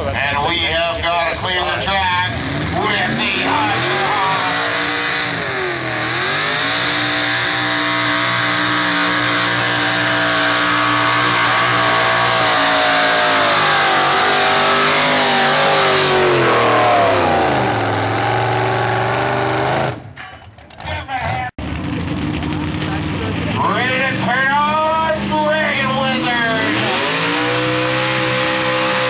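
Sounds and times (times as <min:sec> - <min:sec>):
truck engine at high revs: 0:01.0 - 0:29.0.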